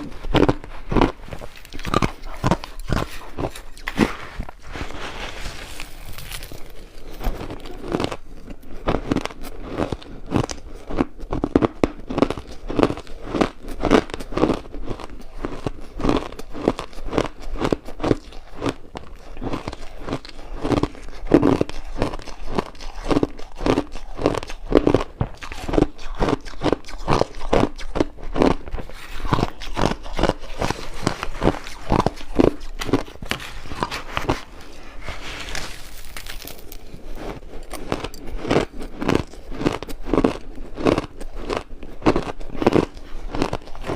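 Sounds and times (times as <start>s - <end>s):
person crunching ice: 0.0s - 43.9s.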